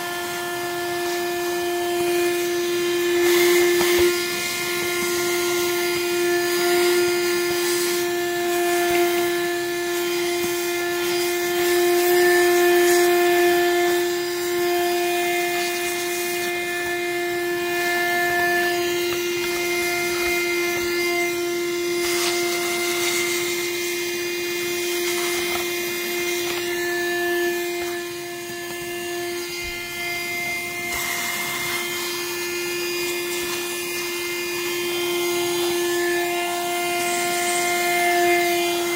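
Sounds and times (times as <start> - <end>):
small electric motor humming: 0.0 - 38.9.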